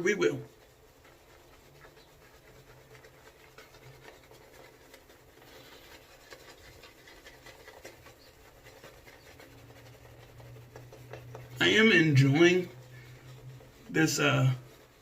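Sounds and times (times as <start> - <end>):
shaving brush swishing in bowl: 0.0 - 15.0.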